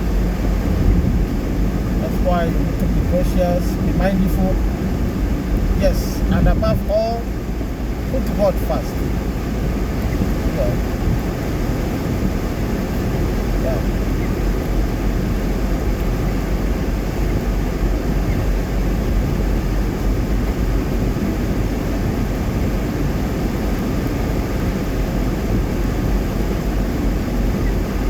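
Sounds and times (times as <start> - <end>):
car engine hum: 0.0 - 28.0
tyres on wet road: 0.0 - 28.0.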